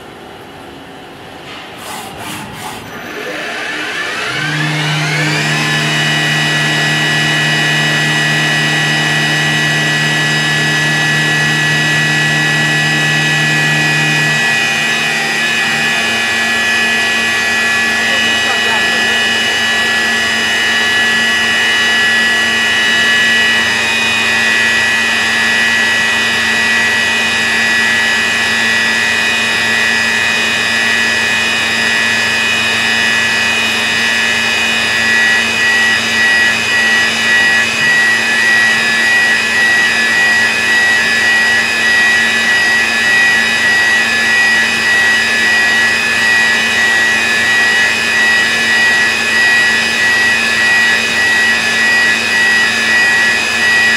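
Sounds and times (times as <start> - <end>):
milling machine cutting metal: 1.7 - 53.9.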